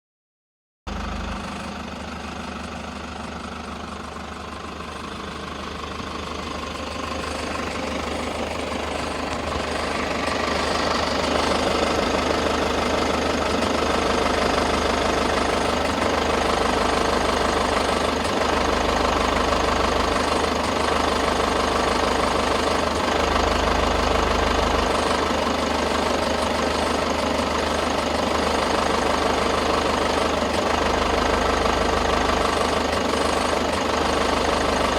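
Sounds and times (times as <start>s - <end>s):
diesel engine idling: 0.9s - 34.9s.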